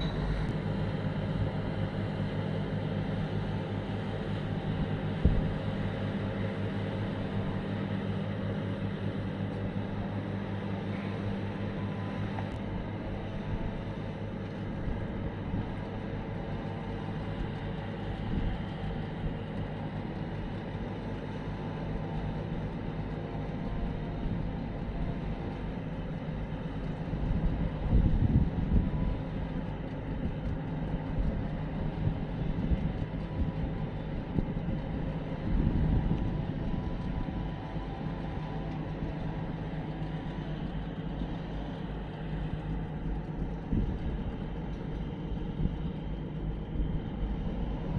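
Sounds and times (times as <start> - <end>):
diesel engines droning: 0.0 - 47.9.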